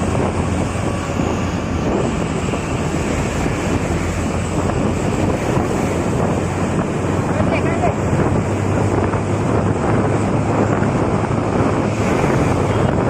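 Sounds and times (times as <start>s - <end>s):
road noise: 0.0s - 13.0s
truck engine drone: 0.0s - 13.0s
wind buffeting microphone: 0.0s - 13.0s.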